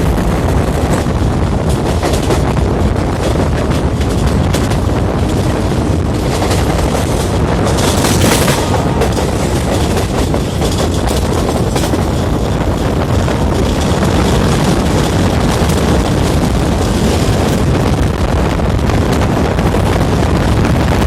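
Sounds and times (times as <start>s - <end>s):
train carriages rumbling on track: 0.0s - 21.0s
wind buffeting microphone: 0.0s - 21.0s.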